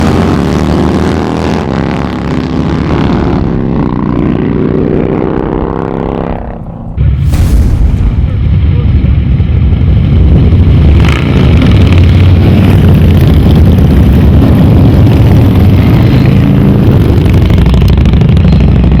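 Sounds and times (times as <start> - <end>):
motorcycle engines running: 0.0 - 7.1, 8.4 - 19.0.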